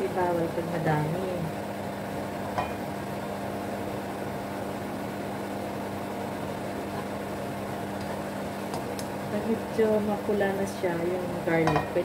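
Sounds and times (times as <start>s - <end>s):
appliance hum: 0.0s - 12.0s.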